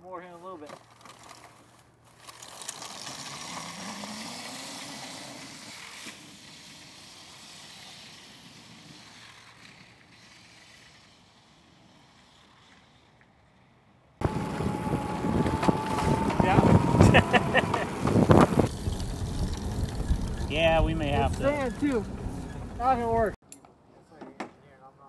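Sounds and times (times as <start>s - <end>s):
electric dirt bike motor whine: 2.2s - 22.7s.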